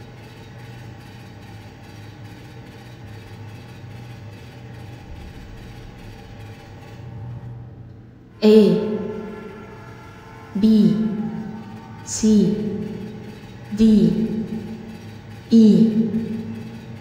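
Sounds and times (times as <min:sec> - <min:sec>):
low rumble of train on track: 0:00.0 - 0:17.0.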